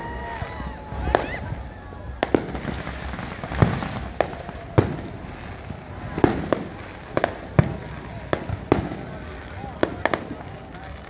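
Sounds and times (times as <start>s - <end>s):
background rumble: 0.0s - 11.0s
fireworks bangs: 0.0s - 11.0s.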